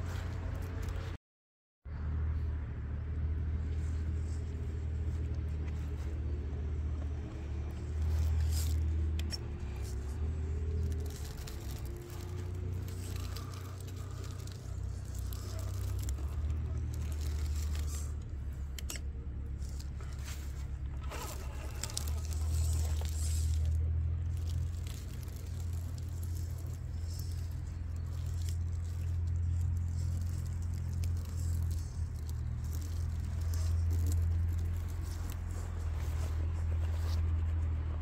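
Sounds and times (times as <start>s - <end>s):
electric motor and gearbox whining: 3.4s - 37.8s.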